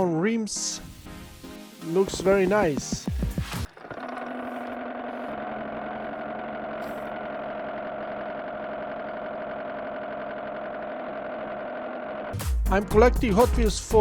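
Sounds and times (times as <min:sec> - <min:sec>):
car engine idling: 0:02.1 - 0:13.6.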